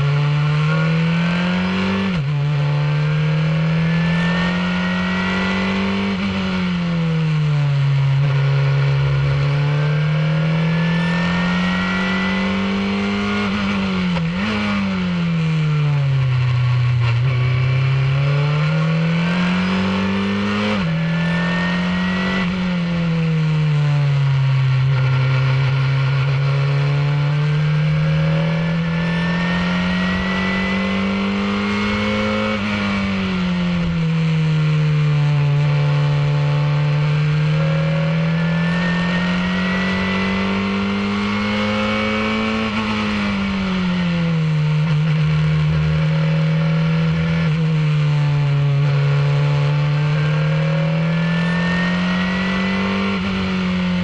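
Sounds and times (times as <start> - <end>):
race car engine revving: 0.0 - 23.3, 24.0 - 54.0.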